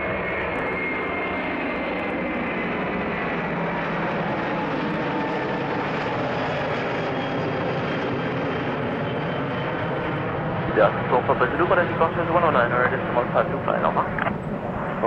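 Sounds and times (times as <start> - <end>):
faint high engine whine: 0.0 - 15.0
jet engines rumbling at takeoff: 0.0 - 15.0.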